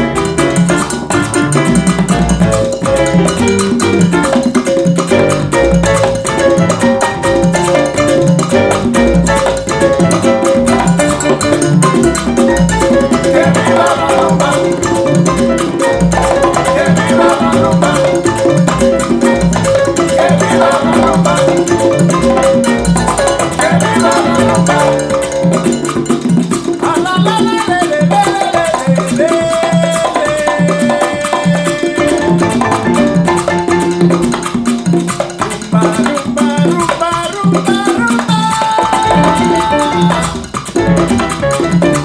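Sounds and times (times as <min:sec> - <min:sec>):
salsa music through speakers: 0:00.0 - 0:42.0.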